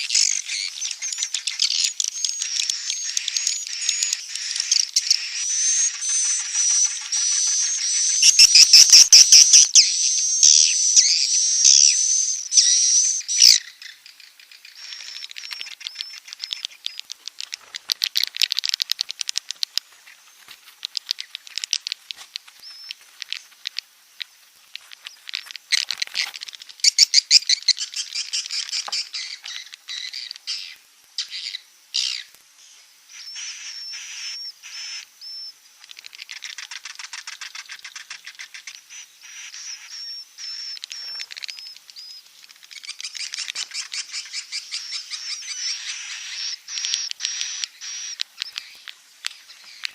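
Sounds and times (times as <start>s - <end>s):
swiftlet calls buzzing and chirping: 0.0s - 49.9s.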